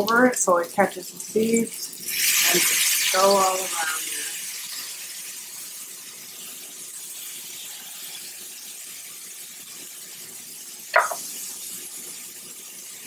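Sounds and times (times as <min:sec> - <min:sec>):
fish sizzling in skillet: 0:01.1 - 0:13.0.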